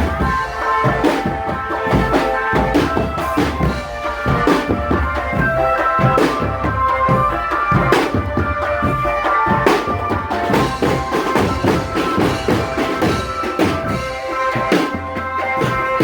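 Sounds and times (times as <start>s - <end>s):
melody of held notes: 0.0s - 16.0s
snare and bass drums: 0.0s - 16.0s.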